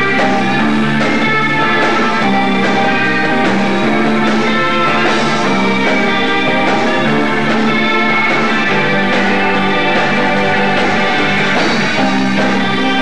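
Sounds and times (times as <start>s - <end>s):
electric guitar notes: 0.0s - 13.0s
rock band playing live: 0.0s - 13.0s.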